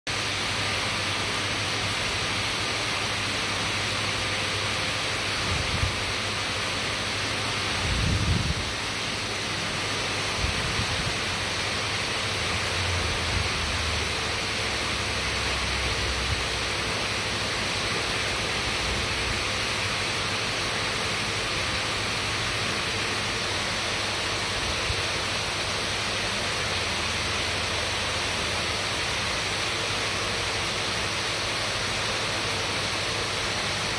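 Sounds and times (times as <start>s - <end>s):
rushing water hiss: 0.1s - 33.9s.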